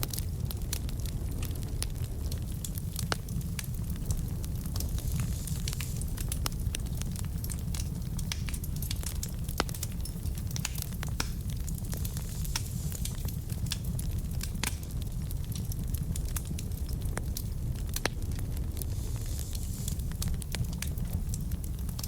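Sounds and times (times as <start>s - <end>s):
wood fire burning: 0.0s - 22.0s.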